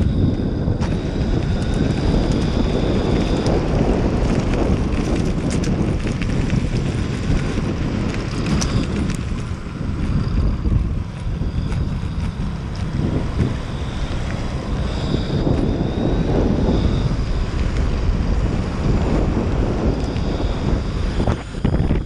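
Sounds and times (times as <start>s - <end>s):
high electric motor whine: 0.0s - 22.0s
tyres rumbling on path: 0.0s - 22.0s
wheels clicking over joints: 0.0s - 22.0s
wind buffeting microphone: 0.0s - 22.0s.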